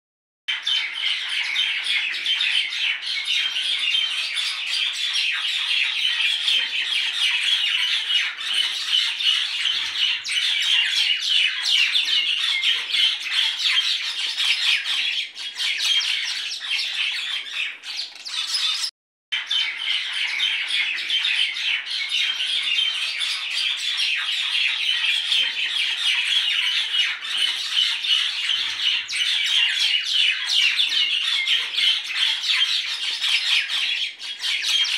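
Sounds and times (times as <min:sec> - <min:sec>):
birds chattering and squawking: 0:00.5 - 0:34.9.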